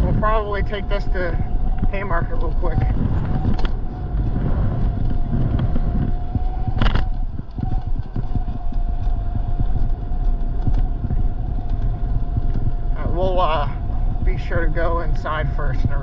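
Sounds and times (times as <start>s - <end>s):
electric motor whine: 0.0s - 16.0s
wind on microphone: 0.0s - 16.0s.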